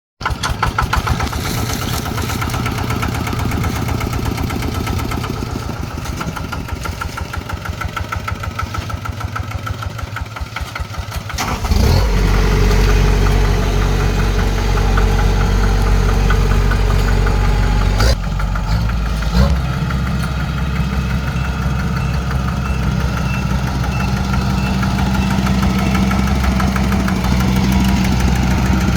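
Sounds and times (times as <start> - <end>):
combine harvester engine: 0.2 - 28.9.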